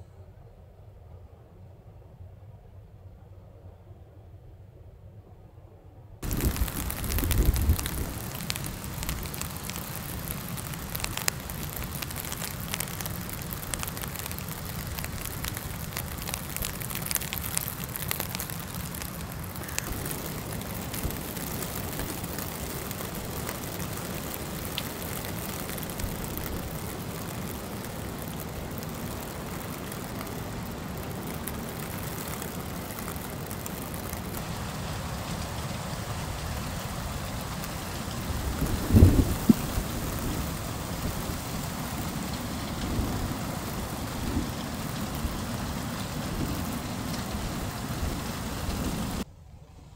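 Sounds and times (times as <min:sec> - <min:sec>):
low rumble of wind: 0:00.0 - 0:49.9
rain hitting a truck: 0:06.2 - 0:49.2.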